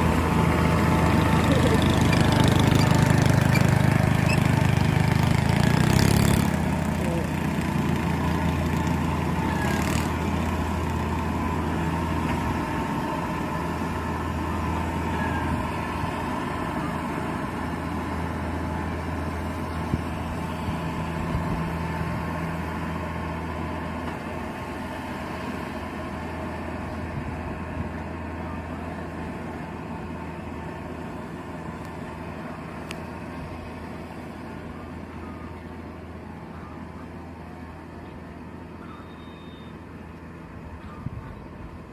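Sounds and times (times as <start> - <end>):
combine harvester engine humming: 0.0 - 41.9.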